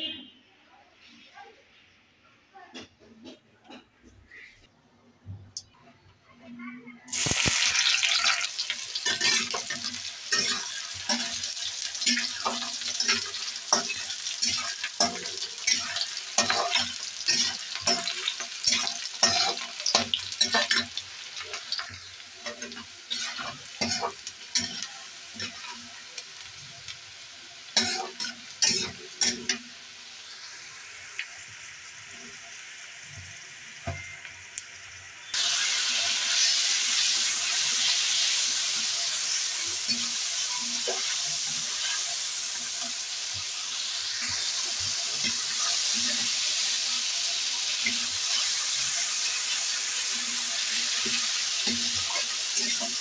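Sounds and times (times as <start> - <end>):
onions sizzling in hot oil: 7.1 - 53.0.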